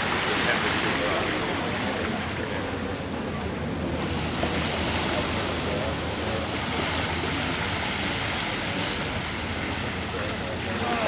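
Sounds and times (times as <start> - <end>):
steady outdoor rushing noise: 0.0 - 11.0.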